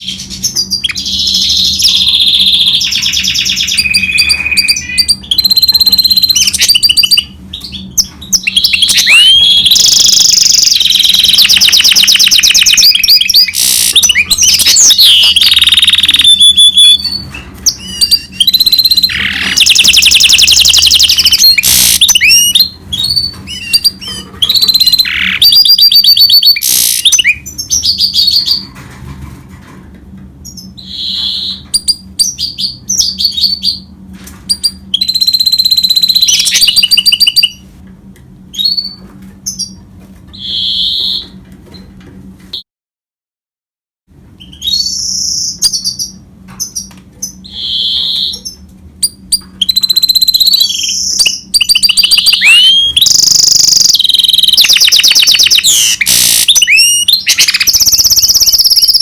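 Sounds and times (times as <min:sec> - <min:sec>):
finch singing trills and whistles: 0:00.0 - 0:28.6, 0:30.5 - 0:33.9, 0:34.5 - 0:37.6, 0:40.4 - 0:41.3, 0:44.4 - 0:59.0.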